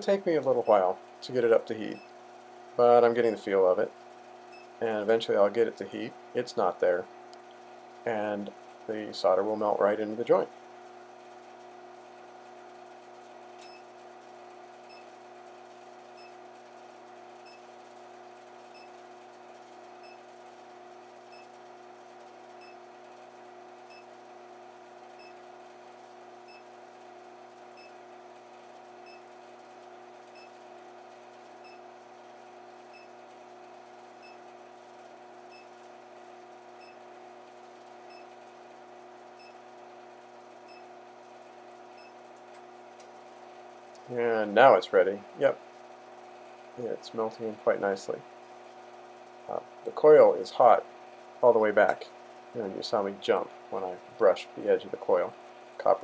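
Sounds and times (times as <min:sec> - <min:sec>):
induction heater humming: 0:00.0 - 0:56.0.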